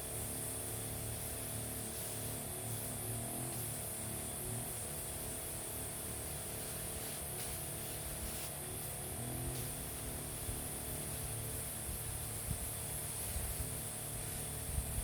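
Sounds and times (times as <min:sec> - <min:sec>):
constant hiss: 0:00.0 - 0:15.0
small engine running: 0:00.0 - 0:15.0.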